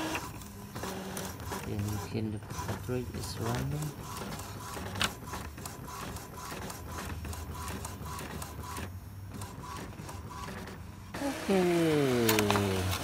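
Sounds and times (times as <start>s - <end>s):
printer motor hum: 0.0s - 13.0s.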